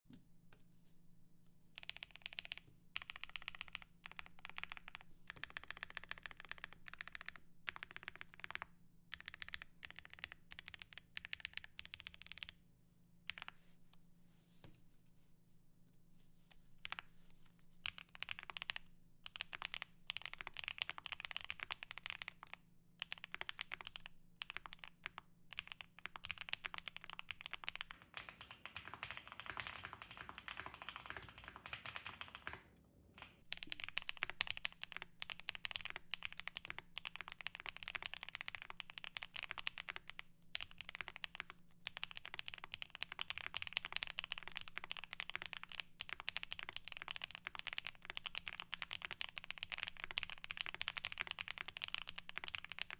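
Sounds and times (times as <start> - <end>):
mechanical keyboard typing: 1.8 - 12.6, 13.3 - 13.6, 17.8 - 52.9.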